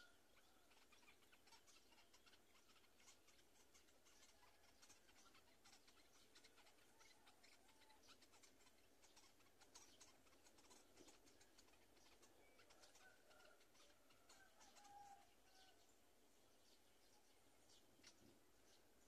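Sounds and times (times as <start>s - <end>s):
chick peeps: 0.0s - 15.8s.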